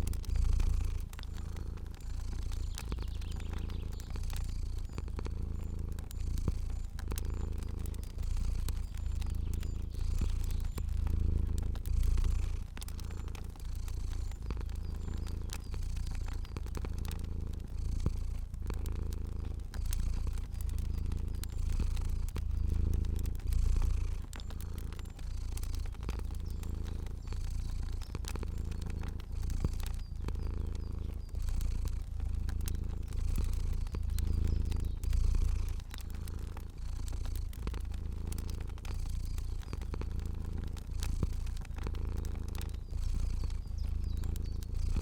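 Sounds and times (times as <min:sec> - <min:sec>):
cat purring: 0:00.0 - 0:45.0
fire crackles: 0:00.0 - 0:45.0.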